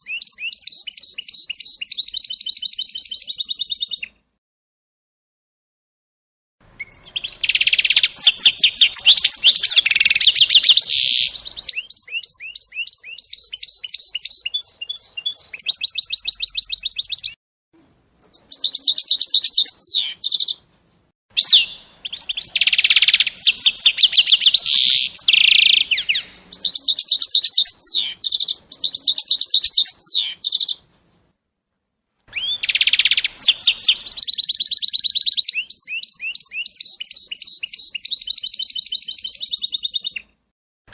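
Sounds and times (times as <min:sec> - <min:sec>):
songbird singing: 0:00.0 - 0:04.2, 0:06.7 - 0:20.6, 0:21.4 - 0:31.3, 0:32.3 - 0:40.9.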